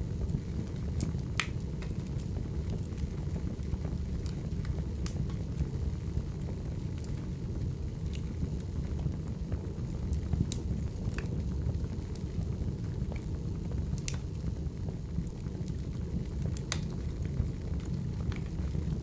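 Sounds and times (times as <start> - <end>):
fire crackles and pops: 0.0 - 19.0
fire flames rumbling: 0.0 - 19.0.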